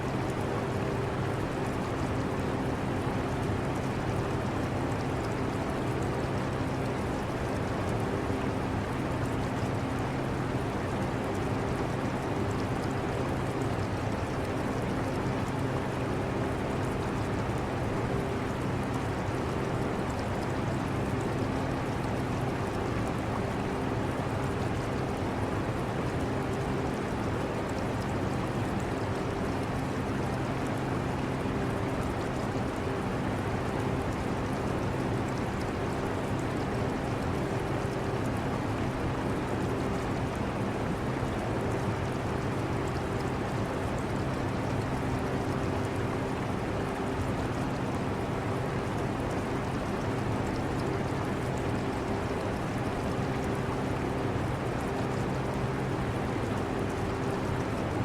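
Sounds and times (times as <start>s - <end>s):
aquarium water trickling: 0.0s - 58.0s.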